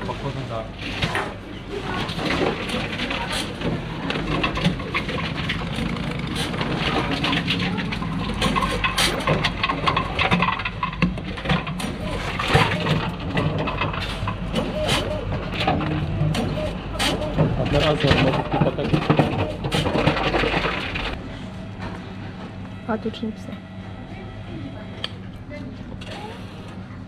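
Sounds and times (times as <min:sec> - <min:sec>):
machine motor hum: 0:00.0 - 0:27.0.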